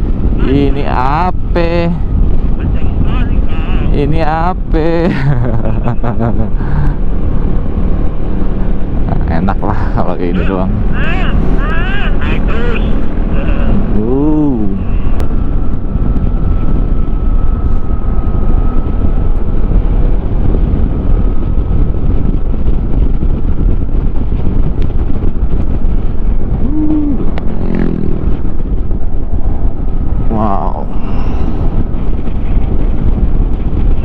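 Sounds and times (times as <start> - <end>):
wind rush over microphone: 0.0 - 34.0.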